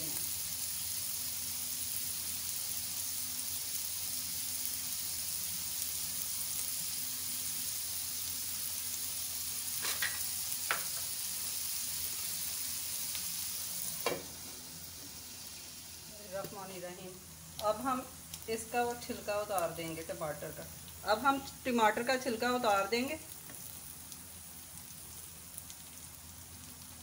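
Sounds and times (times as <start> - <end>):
meat sizzling in oil: 0.0 - 27.0.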